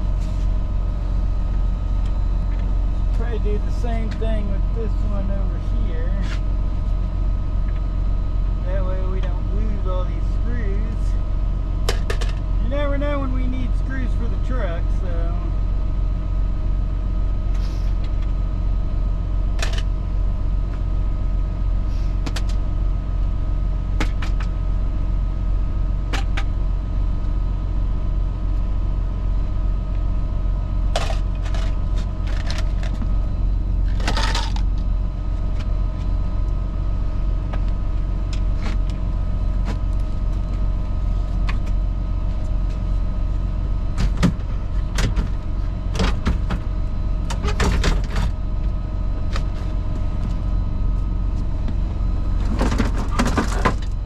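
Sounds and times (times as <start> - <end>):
diesel truck engine idling: 0.0 - 53.2.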